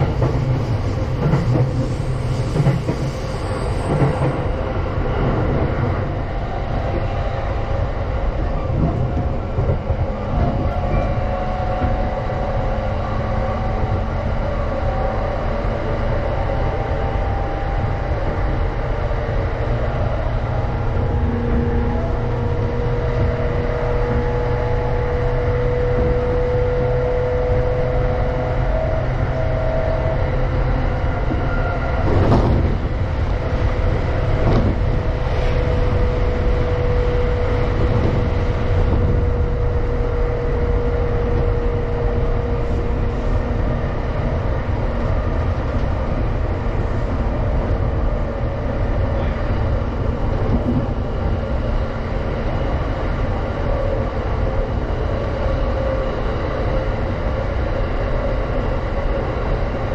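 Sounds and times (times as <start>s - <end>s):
passing train whoosh: 0.0s - 59.9s
train rumbling at speed: 0.0s - 59.9s.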